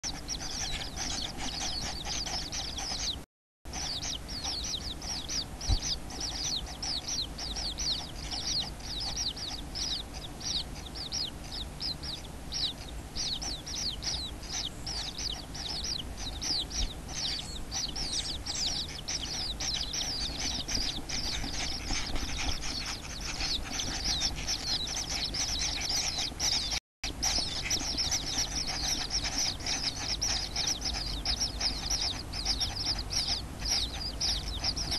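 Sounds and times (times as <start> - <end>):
bird nestlings calling: 0.1 - 34.9
steady low hum: 0.1 - 34.9.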